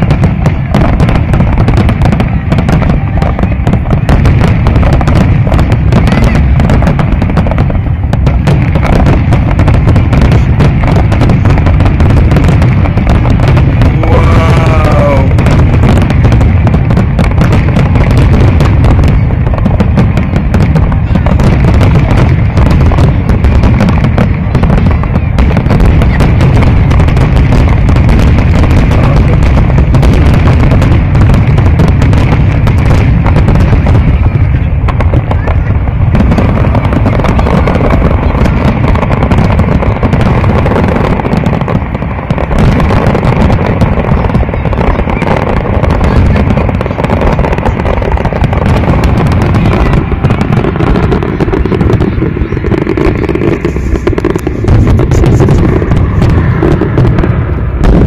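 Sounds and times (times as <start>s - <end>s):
deep rumble: 0.0s - 58.0s
fireworks pops and bangs: 0.0s - 58.0s.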